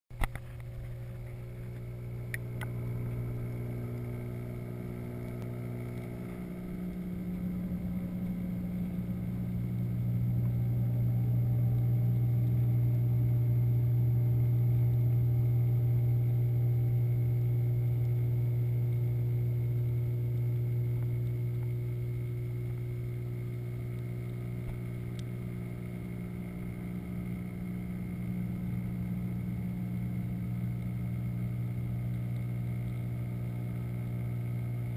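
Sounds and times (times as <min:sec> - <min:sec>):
aquarium pump hum underwater: 0:00.1 - 0:34.9.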